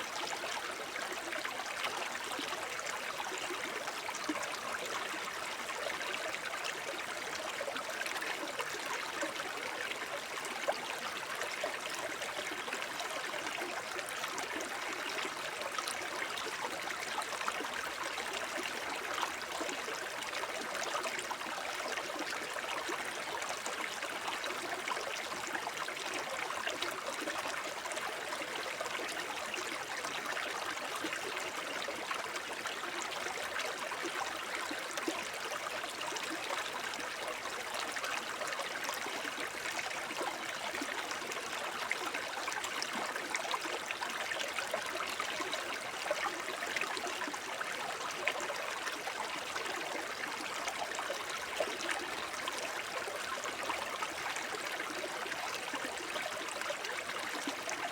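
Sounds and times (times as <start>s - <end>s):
brook babbling: 0.0s - 57.9s.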